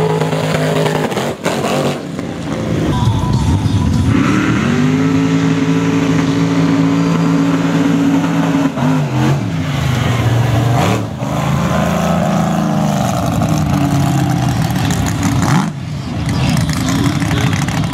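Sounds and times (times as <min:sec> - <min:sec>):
truck engine revving: 0:00.0 - 0:17.9.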